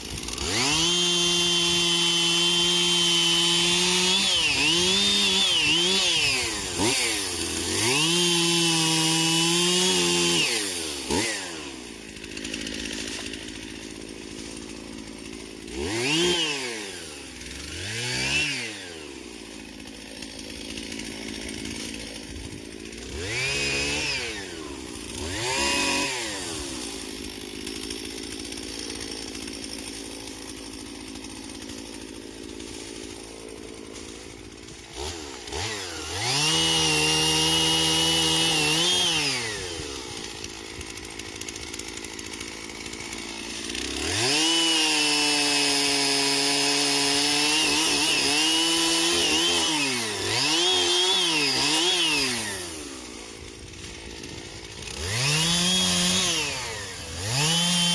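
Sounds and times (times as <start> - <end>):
chainsaw revving and idling: 0.0 - 57.9.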